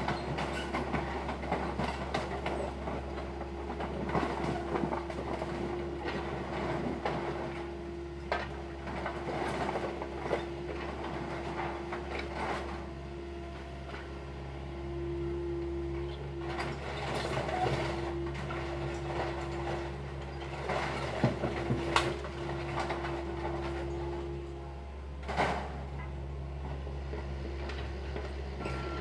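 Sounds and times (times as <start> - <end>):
excavator engine humming and whining: 0.0 - 29.0.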